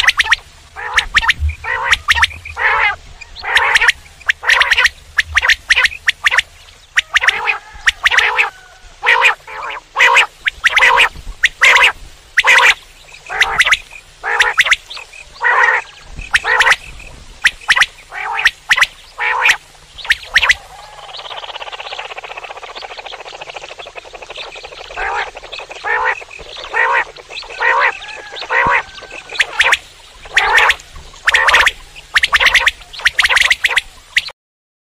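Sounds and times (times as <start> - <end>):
quail calling: 0.0 - 34.3.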